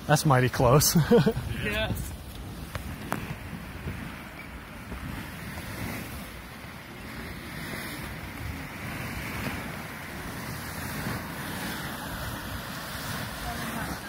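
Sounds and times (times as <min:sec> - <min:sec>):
boiling water churning and splashing: 0:00.0 - 0:14.0
wind buffeting microphone: 0:00.0 - 0:14.0.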